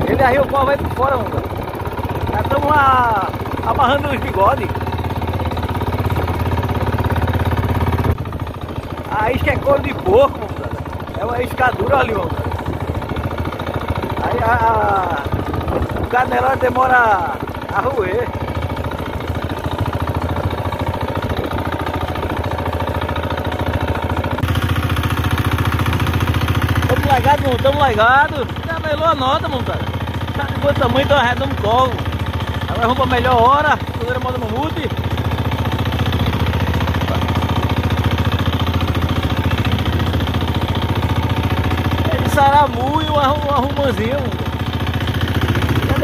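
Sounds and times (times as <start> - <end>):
boat engine running: 0.0 - 46.0.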